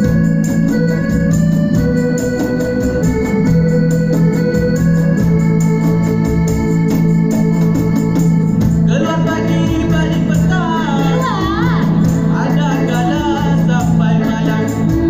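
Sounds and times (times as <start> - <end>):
electronic organ chords: 0.0 - 15.0
steady drum beat: 0.0 - 15.0.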